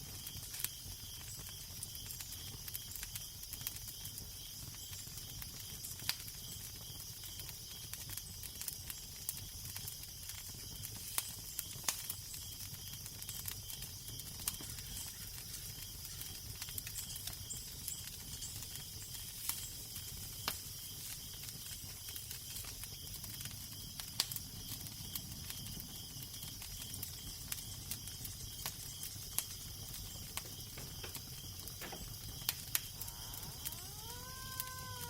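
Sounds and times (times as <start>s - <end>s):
fire crackling and popping: 0.0s - 35.0s
loud fire snaps: 0.0s - 35.0s.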